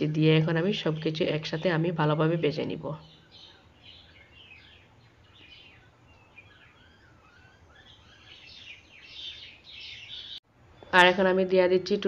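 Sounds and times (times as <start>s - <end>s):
low steady hiss: 0.0s - 12.0s
small birds chirping: 0.2s - 11.0s.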